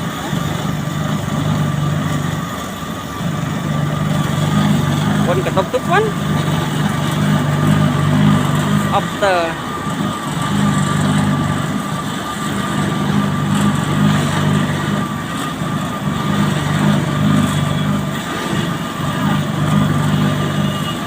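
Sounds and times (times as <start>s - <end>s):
diesel engine running steadily: 0.0s - 21.0s
thin steady whine: 0.0s - 21.0s.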